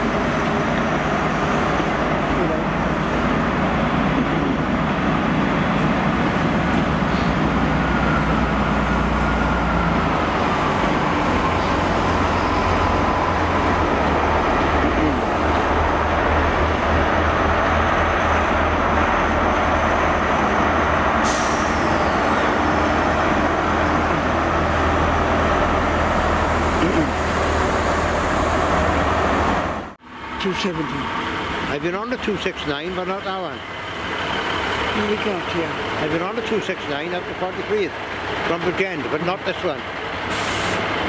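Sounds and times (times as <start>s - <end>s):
diesel train engine drone: 0.0s - 41.0s.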